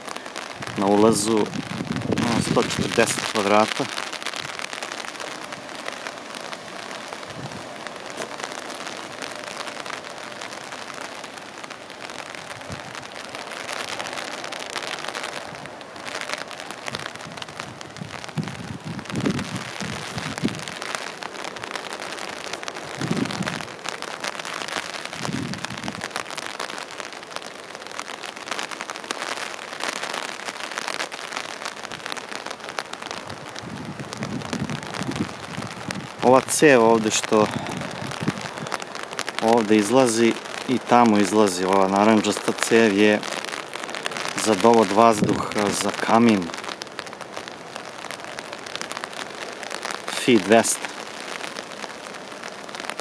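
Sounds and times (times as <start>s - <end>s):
steady outdoor hiss: 0.0s - 53.0s.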